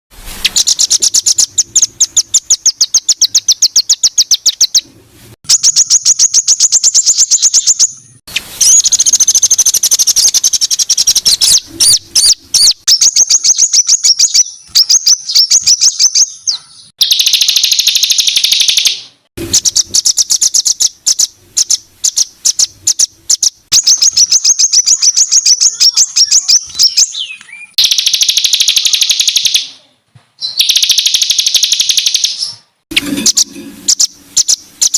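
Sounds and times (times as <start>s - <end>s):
songbird harsh rapid trills: 0.4s - 4.8s, 5.5s - 29.8s, 30.5s - 34.9s.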